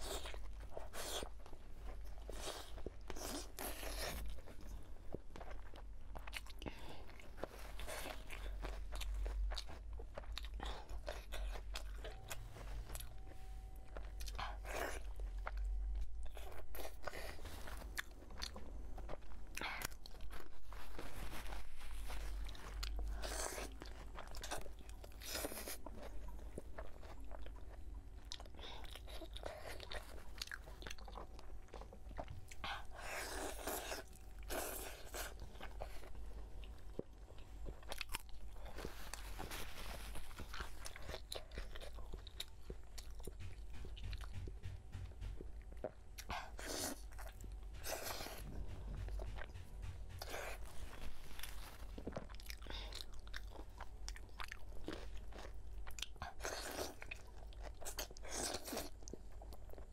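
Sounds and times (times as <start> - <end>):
low steady hum: 0.0 - 59.9
wet chewing and smacking: 0.0 - 59.9.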